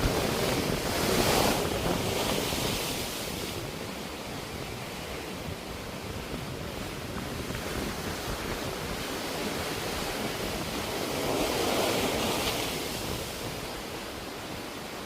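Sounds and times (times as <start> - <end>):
sea waves washing onto shore: 0.0 - 15.0
wind on microphone: 0.0 - 15.0.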